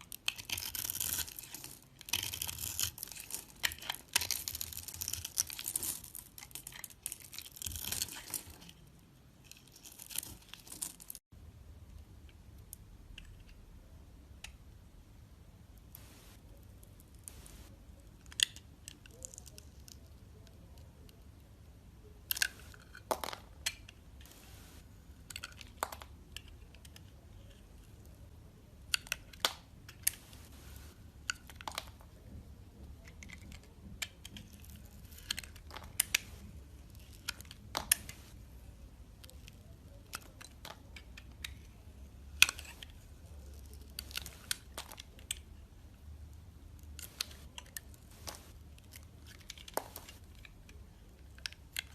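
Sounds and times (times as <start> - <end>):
dry soap crunching and crackling: 0.0 - 11.3, 15.8 - 51.9.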